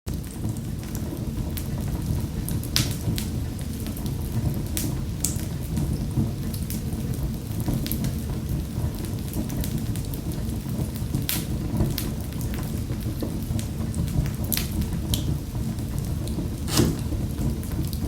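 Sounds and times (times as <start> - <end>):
wood fire crackling in fireplace: 0.1 - 18.0.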